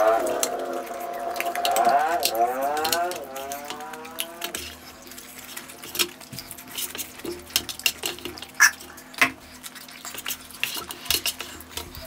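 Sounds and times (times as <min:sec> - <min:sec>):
chewing and mouth smacks: 0:00.0 - 0:12.0.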